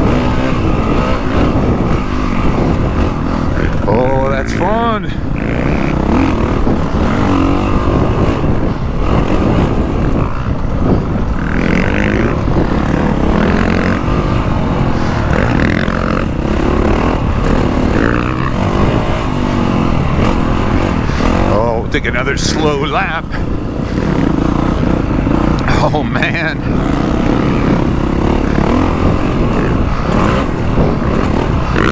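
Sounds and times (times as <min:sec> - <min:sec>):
motorcycle engine revving: 0:00.0 - 0:31.9
wind noise on microphone: 0:00.0 - 0:31.9.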